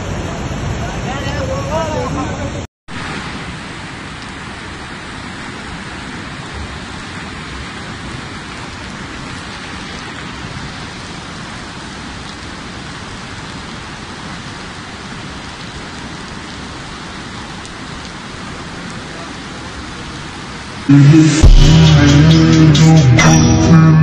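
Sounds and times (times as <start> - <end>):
flooded river rushing: 0.0 - 24.0.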